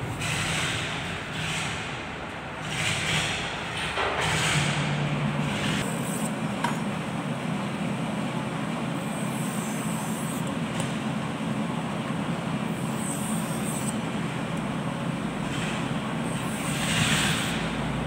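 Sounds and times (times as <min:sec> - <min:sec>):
machinery rumble and hum: 0:00.0 - 0:18.0.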